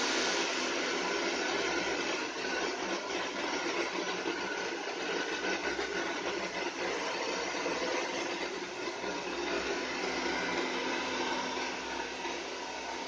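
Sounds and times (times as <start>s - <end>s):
hair dryer blowing air: 0.0s - 13.0s.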